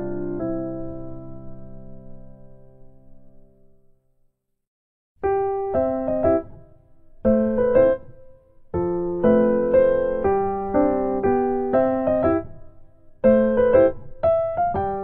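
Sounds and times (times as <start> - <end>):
gentle piano chords: 0.0 - 4.0, 5.2 - 15.0.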